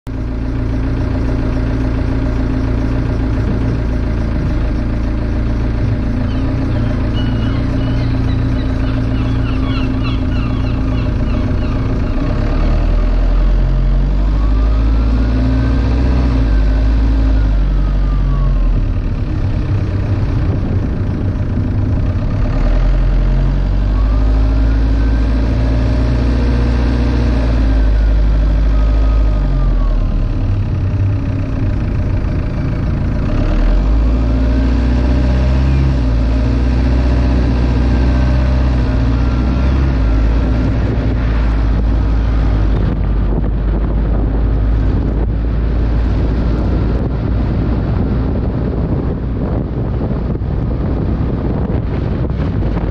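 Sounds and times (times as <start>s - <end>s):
car engine and road noise: 0.0s - 52.9s
rising and falling whine: 0.1s - 52.9s
wind rumble on microphone: 0.1s - 52.9s.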